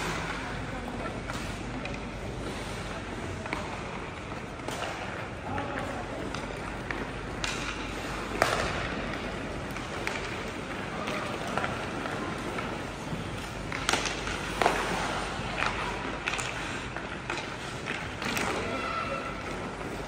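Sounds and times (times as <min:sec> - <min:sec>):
hockey sticks clacking on puck: 0:00.0 - 0:20.0
skate blades scraping ice: 0:00.0 - 0:20.0.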